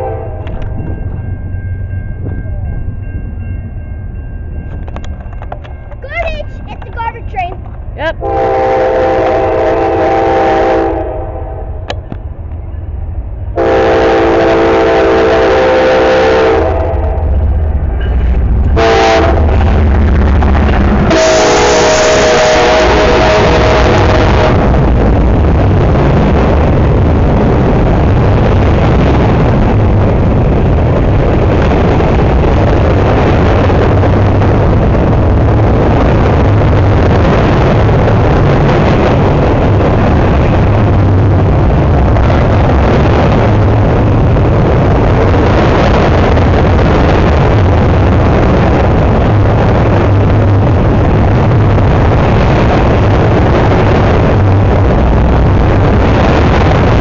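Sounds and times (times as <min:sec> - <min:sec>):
train passing rumble: 0:00.0 - 0:57.0.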